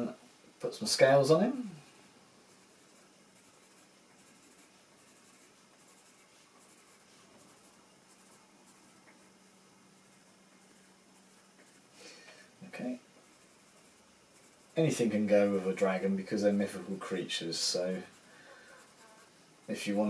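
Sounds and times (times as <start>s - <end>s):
faint steady hum: 0.0s - 20.0s
pencil scratching on paper: 2.4s - 12.0s, 12.6s - 20.0s.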